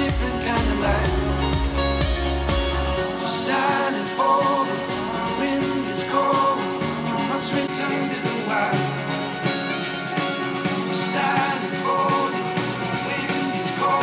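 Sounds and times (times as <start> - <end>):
song through speakers: 0.0 - 14.0.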